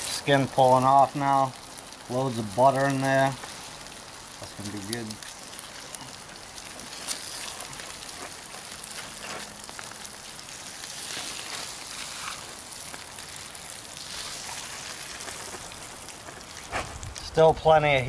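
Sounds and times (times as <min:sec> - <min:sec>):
foil crinkling: 0:00.0 - 0:17.3
fish sizzling in foil: 0:00.0 - 0:18.0.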